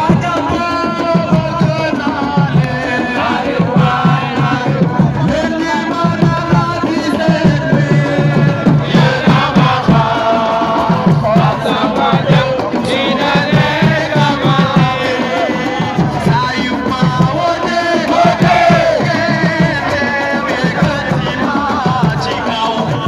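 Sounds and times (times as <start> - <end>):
group singing and chanting: 0.0 - 23.0.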